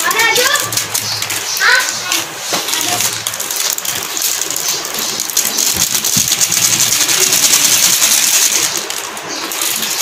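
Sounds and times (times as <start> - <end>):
foil packets crinkling: 0.0 - 10.0.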